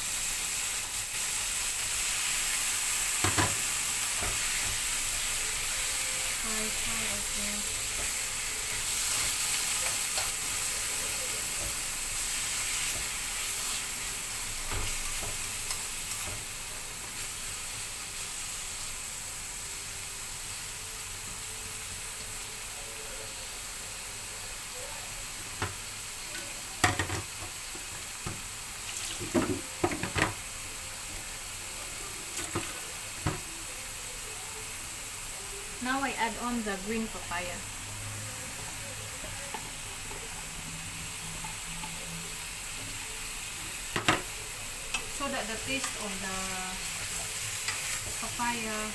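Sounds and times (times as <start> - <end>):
chicken sizzling in oil: 0.0 - 48.9.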